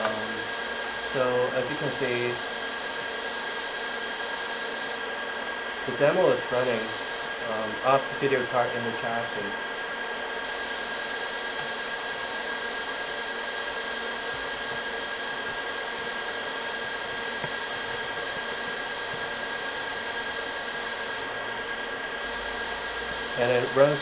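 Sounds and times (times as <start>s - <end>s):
computer fans whirring: 0.0s - 24.0s.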